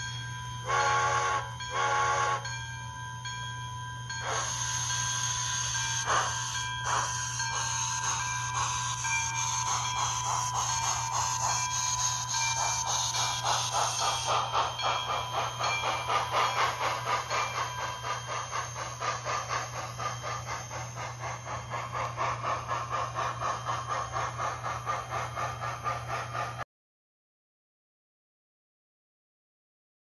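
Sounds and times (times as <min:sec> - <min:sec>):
model steam locomotive chuffing: 0:00.0 - 0:26.6.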